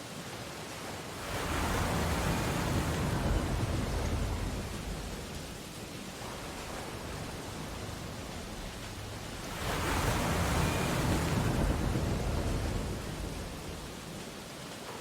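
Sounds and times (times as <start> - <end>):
steady hiss of surf: 0.0 - 15.0
wave breaking and washing in: 0.0 - 15.0.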